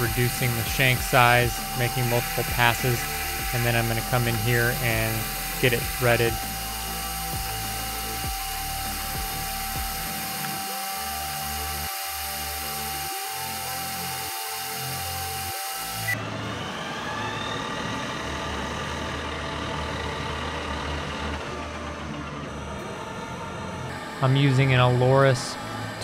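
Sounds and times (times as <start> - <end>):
background music: 0.0 - 26.0
metal lathe whine: 0.0 - 26.0.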